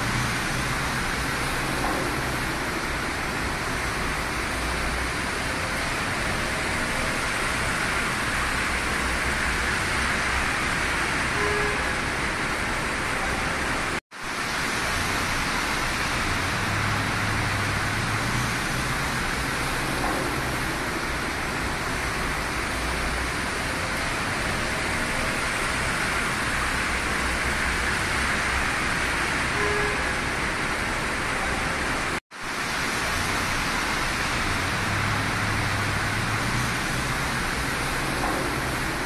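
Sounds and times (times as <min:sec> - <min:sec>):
tyres hissing on wet road: 0:00.0 - 0:39.0.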